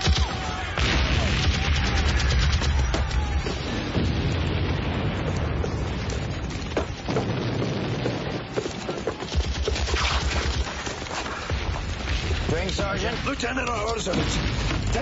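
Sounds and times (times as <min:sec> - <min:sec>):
low rumble of shellfire and booms: 0:00.0 - 0:15.0.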